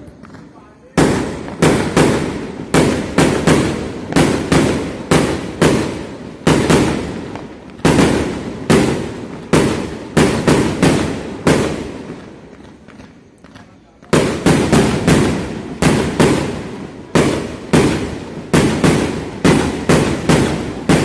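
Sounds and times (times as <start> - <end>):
fireworks bangs echoing: 0.0 - 21.0.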